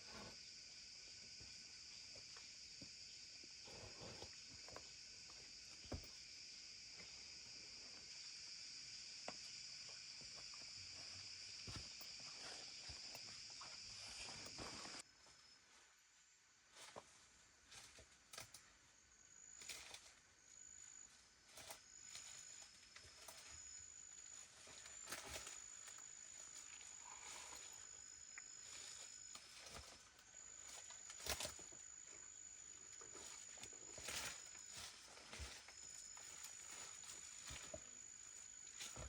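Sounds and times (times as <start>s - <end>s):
high thin insect trill: 0.1s - 15.6s, 18.6s - 39.0s.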